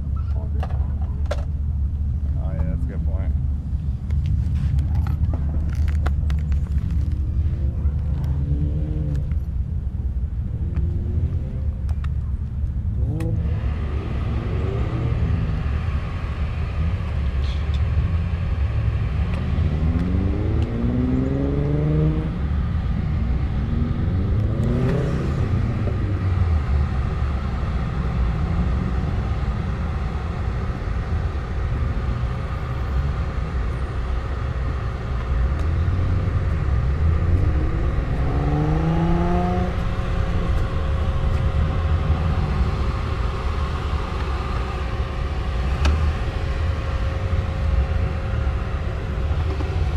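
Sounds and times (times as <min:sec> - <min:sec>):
steady low rumble: 0:00.0 - 0:49.9
vehicle engine accelerating: 0:04.1 - 0:49.9.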